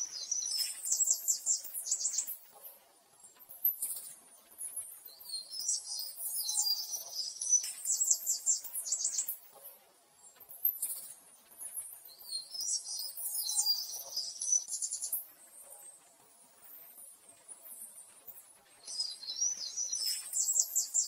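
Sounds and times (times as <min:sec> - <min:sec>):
songbirds chirping and trilling: 0:00.0 - 0:02.6, 0:03.2 - 0:16.7, 0:17.4 - 0:21.0.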